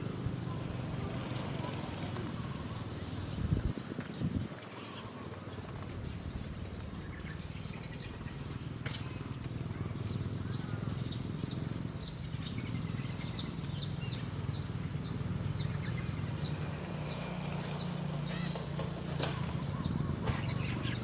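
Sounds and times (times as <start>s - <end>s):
small bird chirping: 0.1s - 21.0s.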